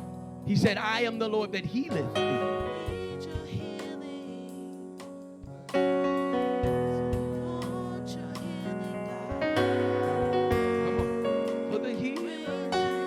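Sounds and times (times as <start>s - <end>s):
keyboard playing worship chords: 0.0s - 13.0s.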